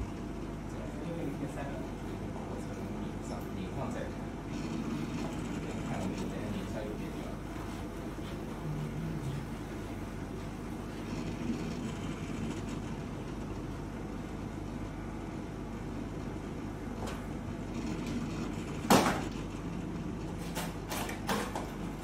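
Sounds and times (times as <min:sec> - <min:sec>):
lab instrument humming: 0:00.0 - 0:22.0.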